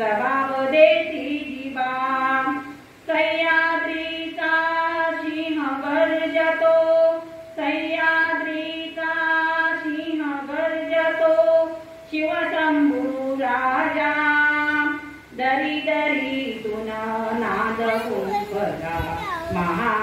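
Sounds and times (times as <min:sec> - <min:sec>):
woman singing into a microphone: 0:00.0 - 0:20.0.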